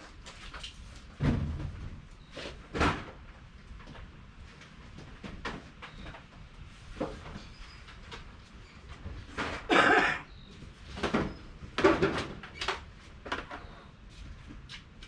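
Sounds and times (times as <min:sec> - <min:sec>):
boxes being handled and moved: 0:00.0 - 0:15.0
knocks and rustles: 0:00.3 - 0:10.0, 0:10.6 - 0:15.0.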